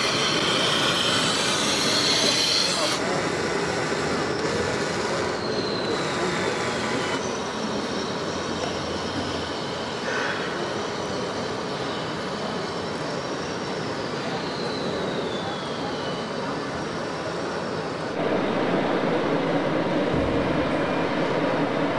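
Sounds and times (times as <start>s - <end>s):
electric model motors whining: 0.0s - 18.2s
steady noise bed: 0.0s - 21.9s.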